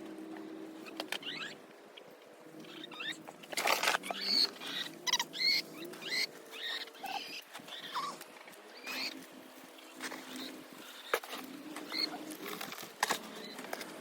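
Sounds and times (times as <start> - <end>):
chickens calling: 0.0 - 14.0.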